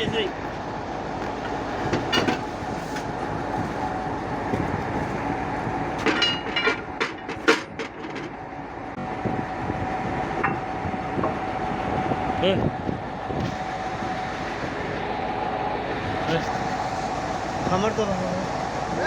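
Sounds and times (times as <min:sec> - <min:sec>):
concrete pump machinery running: 0:00.0 - 0:19.0.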